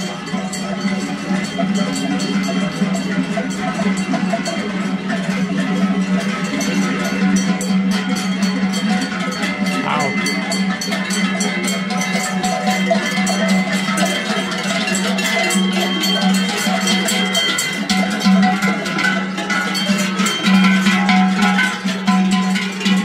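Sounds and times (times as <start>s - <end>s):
cowbells clanging: 0.0s - 23.0s.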